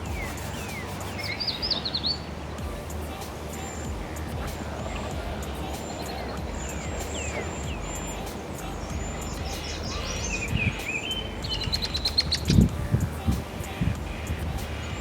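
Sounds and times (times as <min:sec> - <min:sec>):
birds calling and singing: 0:00.0 - 0:15.0
low background rumble: 0:00.0 - 0:15.0.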